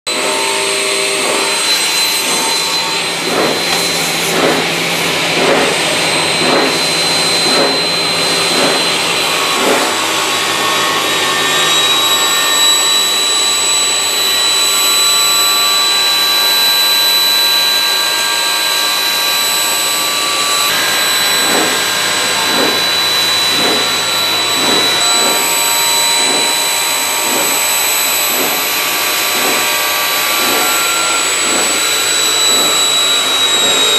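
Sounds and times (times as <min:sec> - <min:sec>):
saw cutting aluminum tube: 0:00.1 - 0:15.7, 0:16.3 - 0:33.9.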